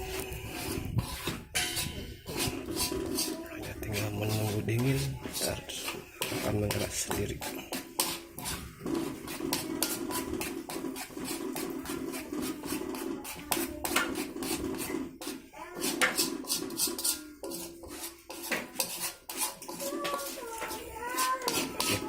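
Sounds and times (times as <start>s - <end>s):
utensil scraping a pot: 0.0s - 22.0s.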